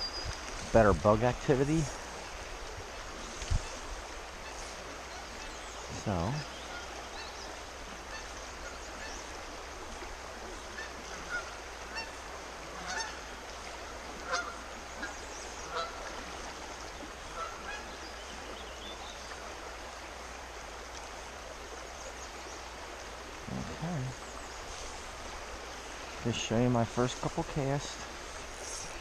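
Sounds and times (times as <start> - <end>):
flowing creek water: 0.0 - 29.0.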